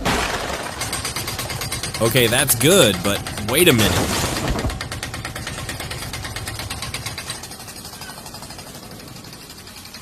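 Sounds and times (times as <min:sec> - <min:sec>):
machine engine chattering: 0:00.4 - 0:10.0.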